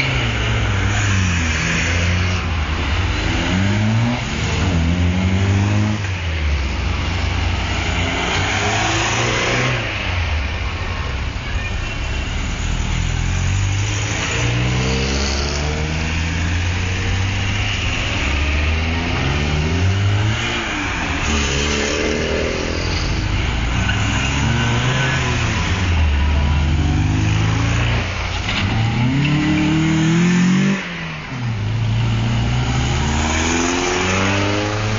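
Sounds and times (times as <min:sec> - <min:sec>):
cars driving past revving: 0:00.0 - 0:11.4, 0:12.1 - 0:34.9.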